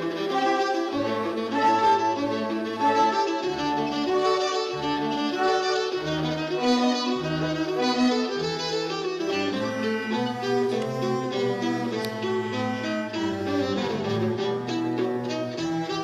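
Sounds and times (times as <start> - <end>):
cellos and double basses: 0.0 - 16.0
violins sustained notes: 0.0 - 16.0.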